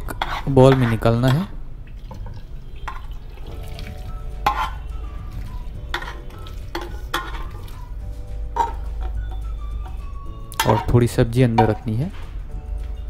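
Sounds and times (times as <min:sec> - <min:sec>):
steel ladle scraping a pot: 0:00.0 - 0:01.5, 0:02.1 - 0:07.9, 0:08.5 - 0:11.9.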